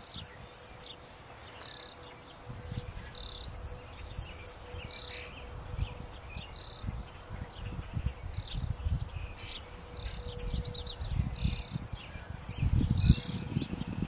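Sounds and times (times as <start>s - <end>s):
bird high call: 0.0s - 7.0s, 7.6s - 13.5s
faint bird chirps: 0.0s - 14.0s.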